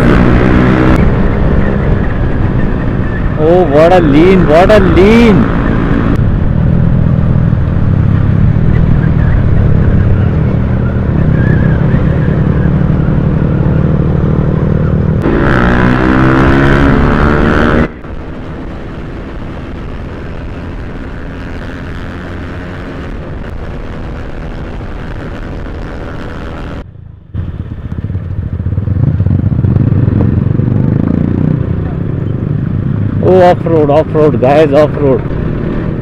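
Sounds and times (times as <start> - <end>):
motorcycle engine running hard: 0.0 - 26.8, 27.4 - 36.0
road and wind noise: 0.0 - 36.0.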